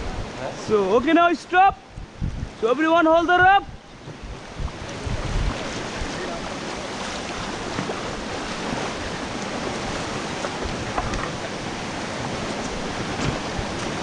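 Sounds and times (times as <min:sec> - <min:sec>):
whitewater rushing and splashing: 0:00.0 - 0:14.0
wind buffeting microphone: 0:00.0 - 0:14.0.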